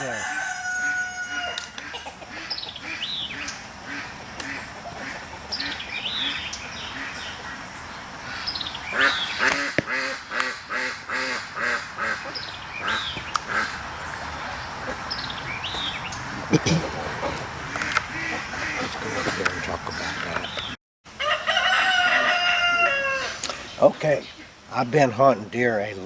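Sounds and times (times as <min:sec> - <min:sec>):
birds calling: 0:00.0 - 0:26.0.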